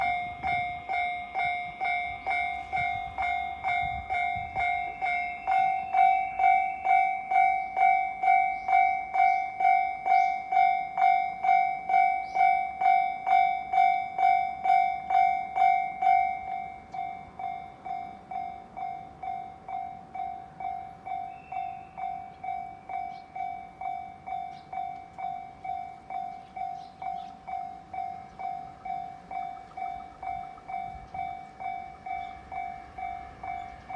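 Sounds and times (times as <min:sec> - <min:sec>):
level-crossing warning bell ringing: 0:00.0 - 0:33.9.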